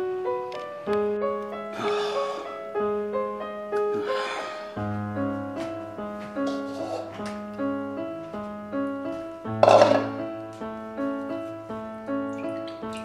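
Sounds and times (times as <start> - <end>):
keyboard melody: 0.0 - 13.0.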